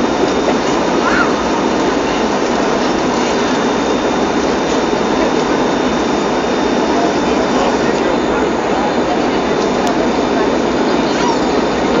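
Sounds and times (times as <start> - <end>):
turboprop engine drone: 0.0 - 12.0.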